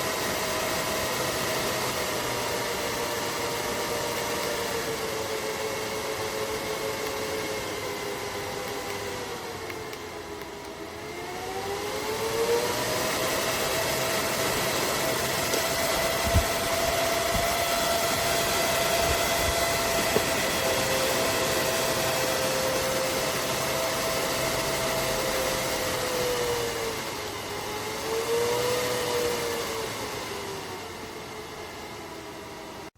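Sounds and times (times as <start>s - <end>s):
small electric fan whining: 0.0s - 32.9s.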